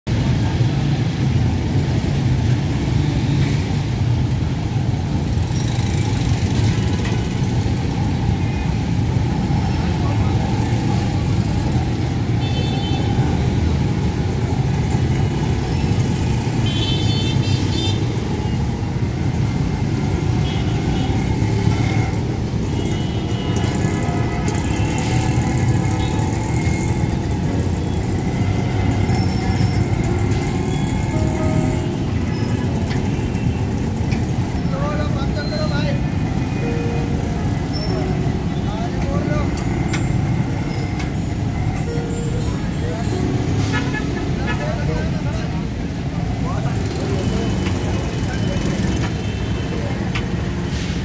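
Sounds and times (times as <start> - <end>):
rumble of motor traffic: 0.1 - 51.0.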